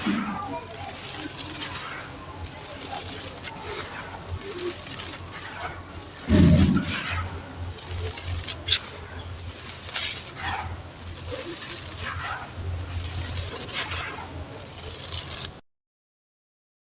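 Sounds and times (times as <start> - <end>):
sand-cement crumbling: 0.0 - 15.6
sharp crack: 0.0 - 15.6.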